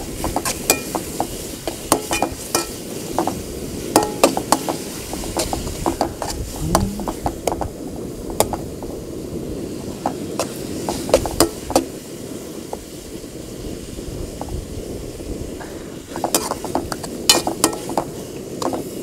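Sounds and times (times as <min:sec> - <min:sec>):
vegetables frying in oil: 0:00.0 - 0:19.0.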